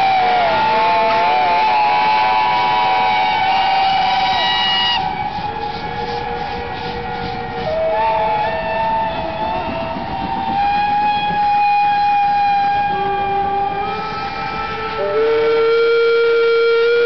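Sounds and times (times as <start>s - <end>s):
rumble of steam engines: 0.0s - 17.0s
steam locomotive whistles: 0.0s - 17.0s.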